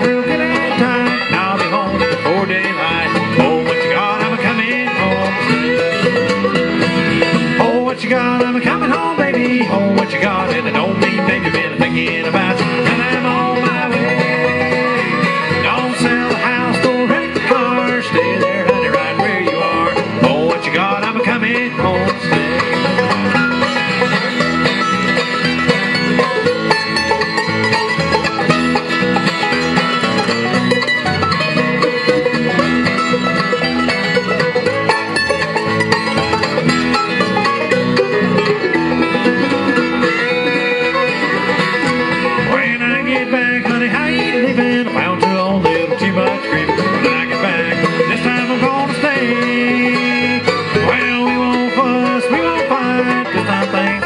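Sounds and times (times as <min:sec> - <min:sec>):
bluegrass band instrumental: 0:00.0 - 0:54.0.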